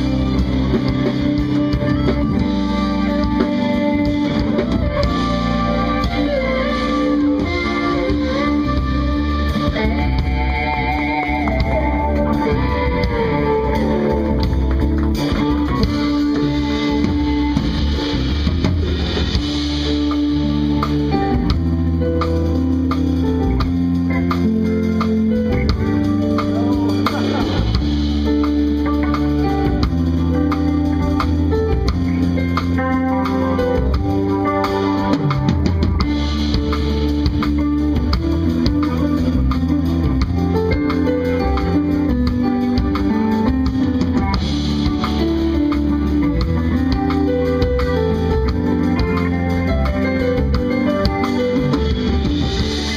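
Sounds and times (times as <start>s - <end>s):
bass guitar: 0.0s - 52.9s
drums: 0.0s - 52.9s
electric guitar: 0.0s - 52.9s
keyboards: 0.0s - 52.9s.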